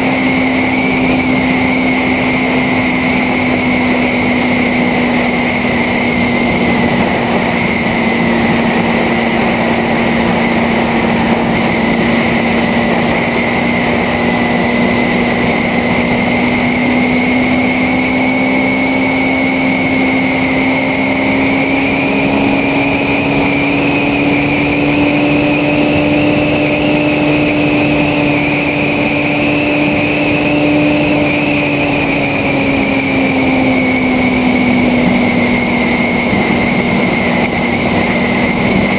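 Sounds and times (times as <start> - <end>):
motorcycle engine running: 0.0 - 38.9
road noise: 0.0 - 38.9.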